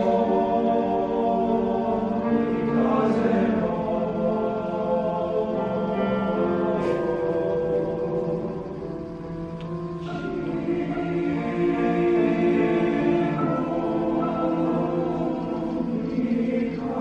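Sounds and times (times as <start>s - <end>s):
hissing consonant: 0.0s - 17.0s
men's choir singing in harmony: 0.0s - 17.0s.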